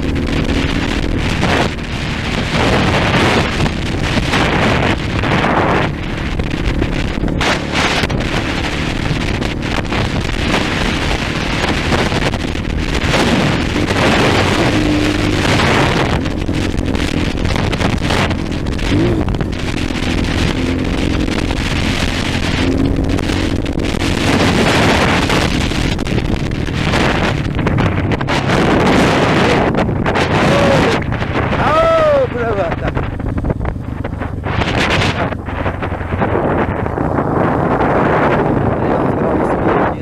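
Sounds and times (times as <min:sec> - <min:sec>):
motorcycle engine revving: 0:00.0 - 0:40.0
wind buffeting microphone: 0:00.0 - 0:40.0.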